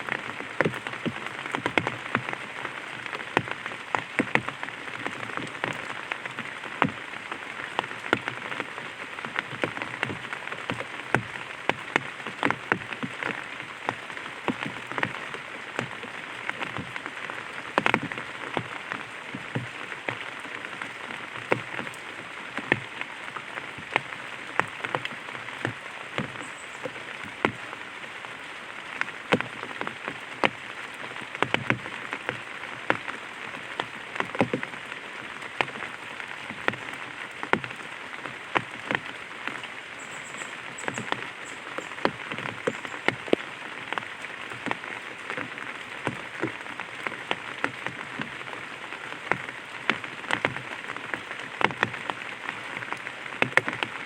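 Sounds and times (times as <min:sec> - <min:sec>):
light rain on an umbrella: 0:00.0 - 0:54.0.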